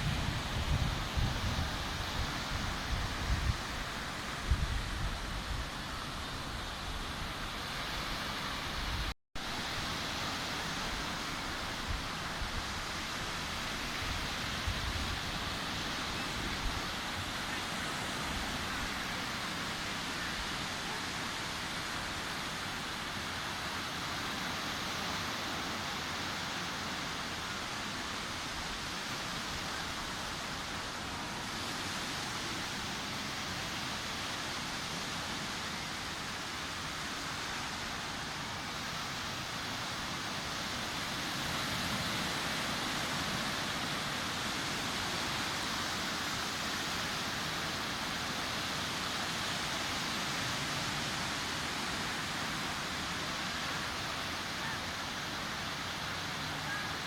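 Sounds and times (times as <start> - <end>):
sea surf washing onto beach: 0.0 - 57.0.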